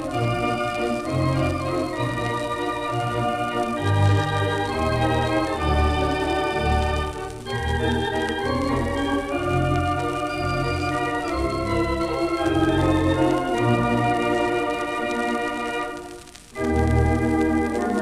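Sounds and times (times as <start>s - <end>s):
organ pedal bass: 0.0s - 14.8s
theatre organ playing held chords: 0.0s - 15.9s.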